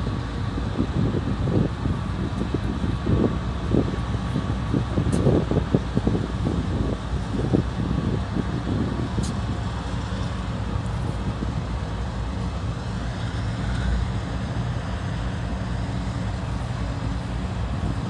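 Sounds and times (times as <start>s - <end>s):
freight train rumbling on tracks: 0.0s - 18.0s.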